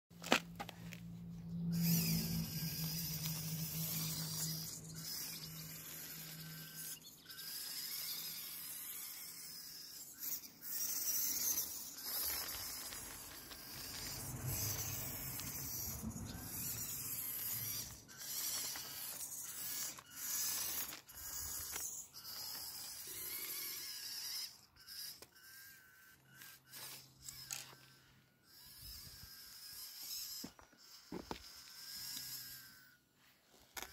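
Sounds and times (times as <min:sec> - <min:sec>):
small electric motor and gears: 0:00.2 - 0:33.9.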